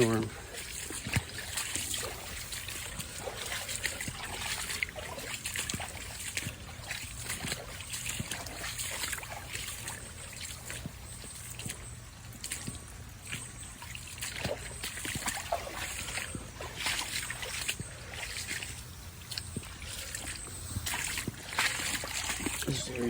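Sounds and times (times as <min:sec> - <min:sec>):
creek water trickling: 0:00.0 - 0:23.0
small water splashes: 0:00.0 - 0:23.0.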